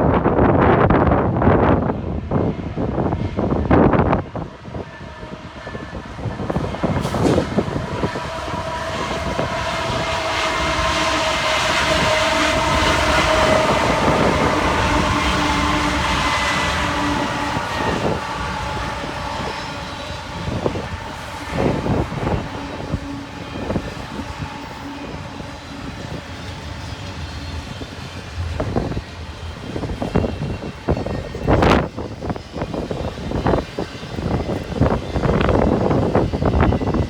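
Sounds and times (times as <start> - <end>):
freight train passing: 0.0 - 37.0
wind on microphone: 0.0 - 37.0.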